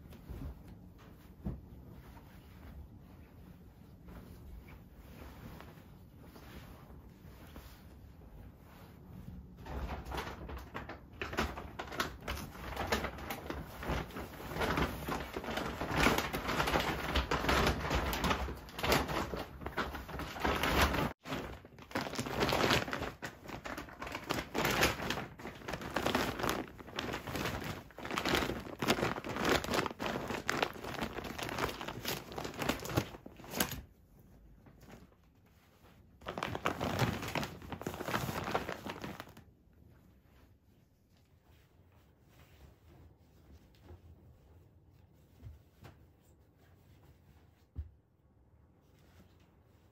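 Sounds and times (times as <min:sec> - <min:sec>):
duvet rustling and crumpling: 0:00.0 - 0:47.8.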